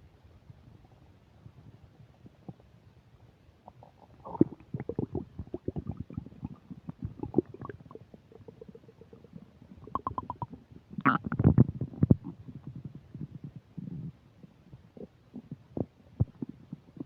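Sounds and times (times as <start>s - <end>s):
stomach gurgling and rumbling: 0.4s - 17.0s.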